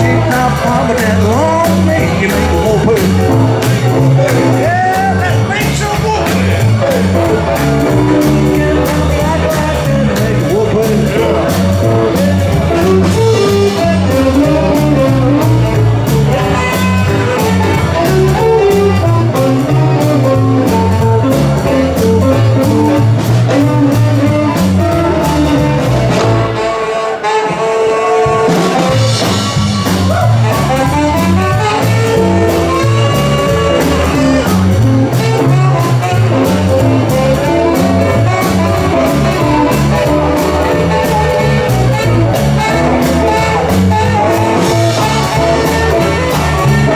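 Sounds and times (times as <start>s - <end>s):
stepping bass line: 0.0s - 26.8s, 28.2s - 46.9s
band playing swing rock and roll: 0.0s - 46.9s.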